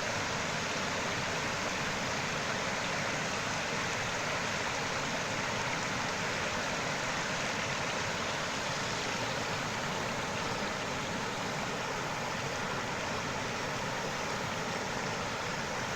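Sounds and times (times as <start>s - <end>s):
stream water flowing: 0.0s - 15.9s.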